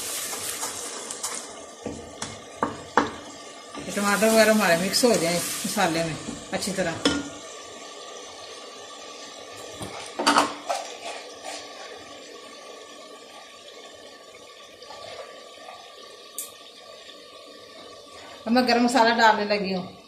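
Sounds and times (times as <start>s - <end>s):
masala sizzling and bubbling: 0.0s - 20.0s.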